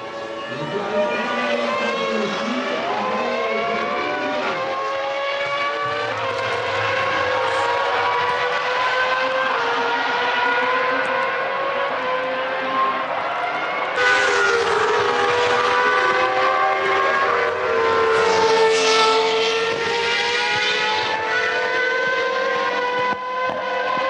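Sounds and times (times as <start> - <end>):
racing car engines at high revs: 0.0 - 24.0.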